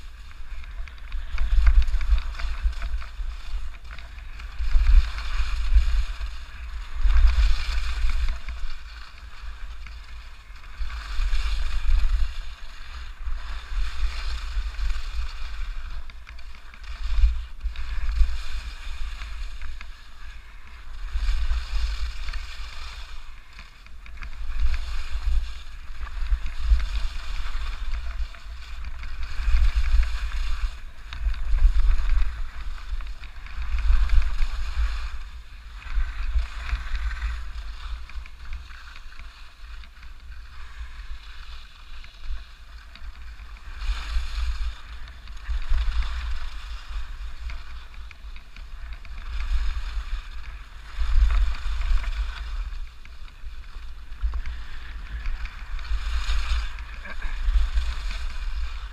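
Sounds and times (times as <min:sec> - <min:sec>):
skis scraping on snow: 0:00.0 - 0:58.9
wind buffeting microphone: 0:00.0 - 0:58.9.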